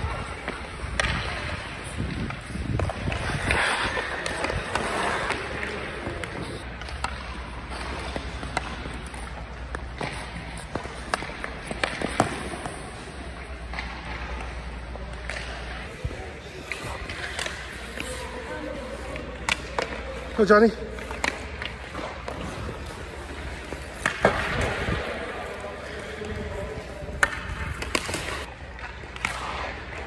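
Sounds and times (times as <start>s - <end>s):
hockey sticks clacking: 0.0s - 30.0s
skate blades scraping ice: 0.0s - 30.0s.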